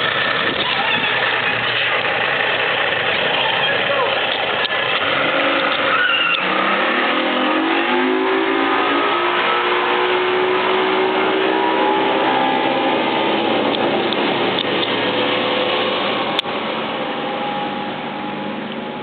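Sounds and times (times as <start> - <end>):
boat engine speeding up: 0.0 - 19.0
rushing noise: 0.0 - 19.0.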